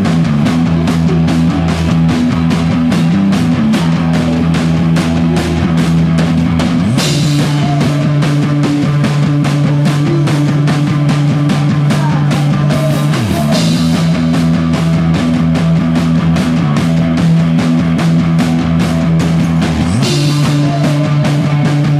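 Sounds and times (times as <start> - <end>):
drums hammering a steady beat: 0.0 - 21.9
live rock band playing: 0.0 - 21.9
sustained low notes: 0.0 - 21.9.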